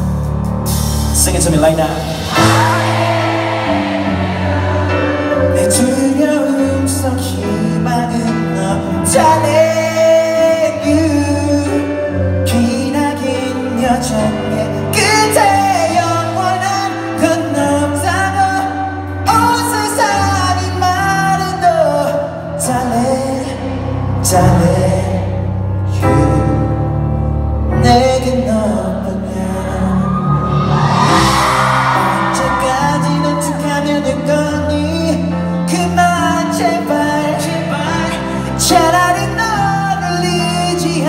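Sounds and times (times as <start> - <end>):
person singing pop ballad: 0.0 - 41.0.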